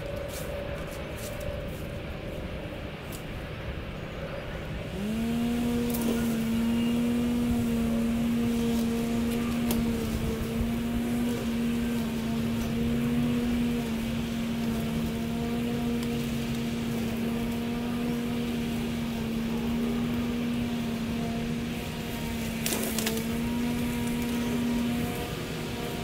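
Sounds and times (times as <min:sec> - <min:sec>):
electric mower motor humming: 0:04.6 - 0:26.0.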